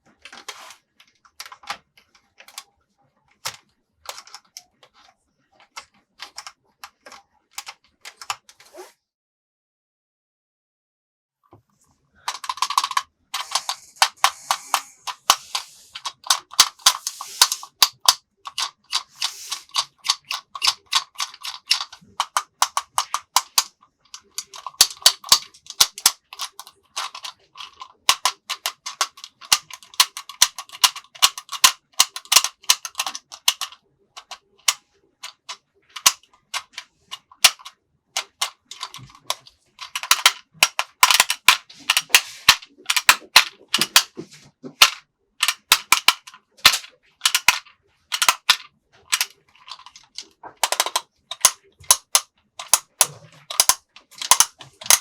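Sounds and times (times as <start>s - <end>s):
rapid irregular clicks and taps: 0.0s - 8.5s, 11.6s - 55.0s.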